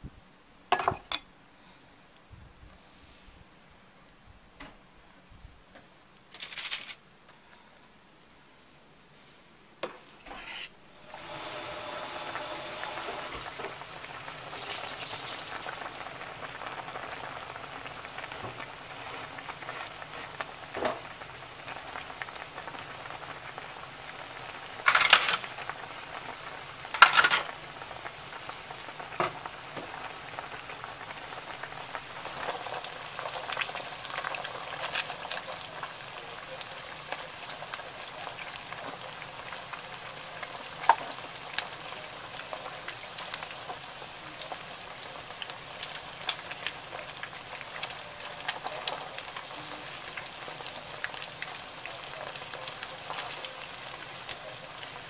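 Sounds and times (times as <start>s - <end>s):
food sizzling in oil: 10.3s - 55.0s.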